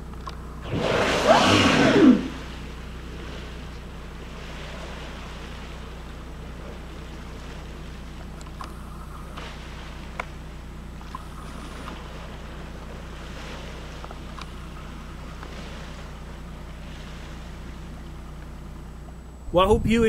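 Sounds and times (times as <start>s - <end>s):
steady low hum: 0.0s - 20.0s
water: 0.0s - 20.0s
wind: 0.0s - 20.0s.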